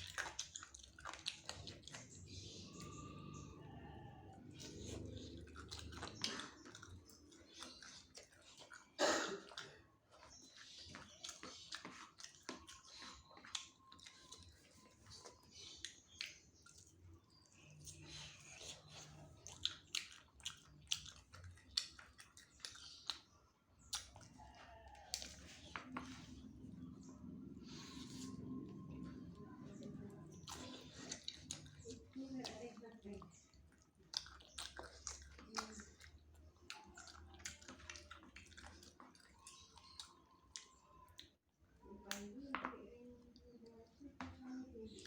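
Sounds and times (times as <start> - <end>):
person chewing: 0.0 - 41.4
lip smacks: 4.5 - 41.4.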